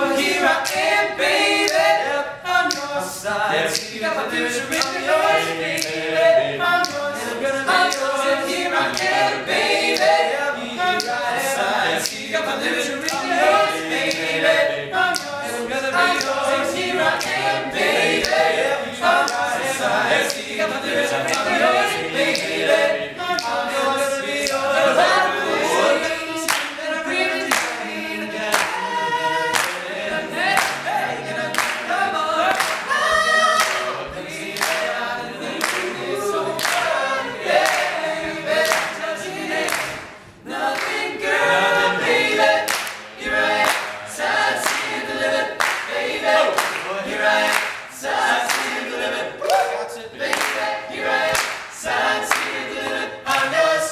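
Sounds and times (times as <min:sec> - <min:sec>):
male group singing in harmony: 0:00.0 - 0:53.9.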